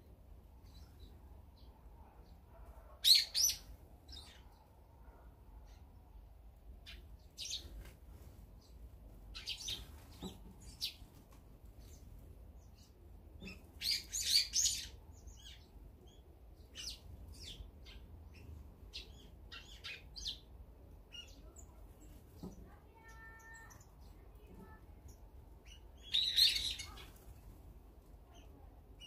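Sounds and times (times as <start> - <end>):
sparrows chirping: 0.6 - 5.0, 5.6 - 27.6.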